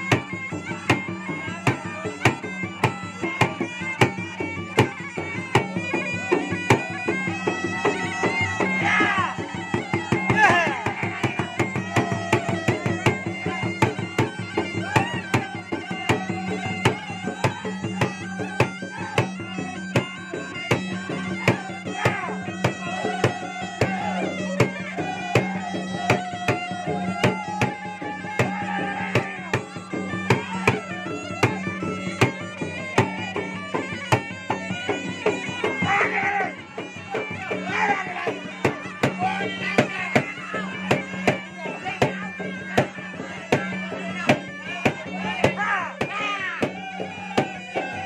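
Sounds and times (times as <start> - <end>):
drums beaten fast: 0.0 - 48.0
reedy wind pipe melody: 0.0 - 48.0.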